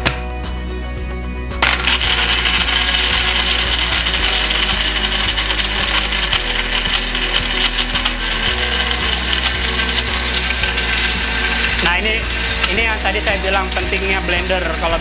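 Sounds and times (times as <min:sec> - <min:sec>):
blender crushing ice: 0:01.6 - 0:14.6.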